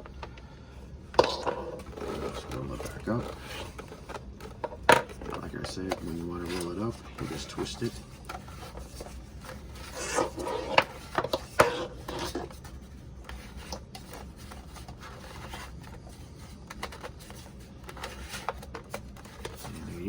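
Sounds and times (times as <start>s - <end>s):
power cord rubbing and scraping: 1.2s - 20.0s.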